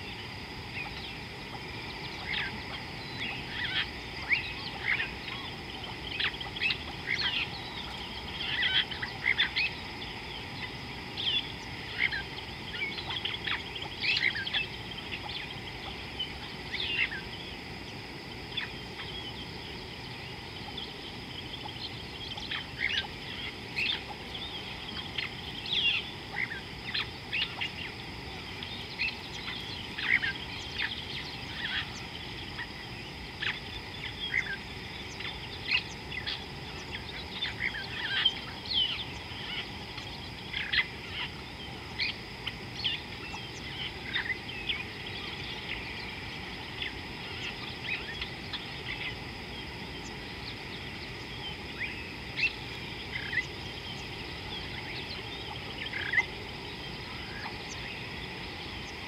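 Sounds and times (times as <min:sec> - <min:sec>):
birds chirping: 0:00.0 - 0:59.0
steady low hiss: 0:00.0 - 0:59.0.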